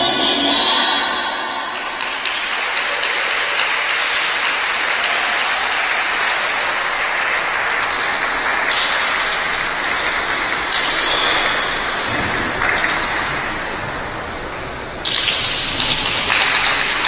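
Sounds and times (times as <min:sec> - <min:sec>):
audience applauding: 0:01.7 - 0:17.0.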